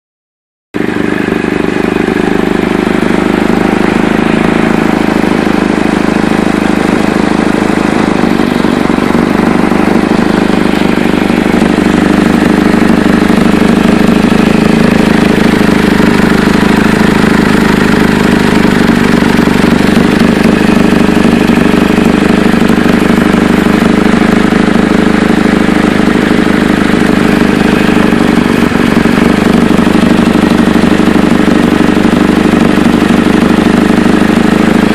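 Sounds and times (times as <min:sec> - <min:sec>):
car engine with exhaust leak: 0:00.8 - 0:34.9.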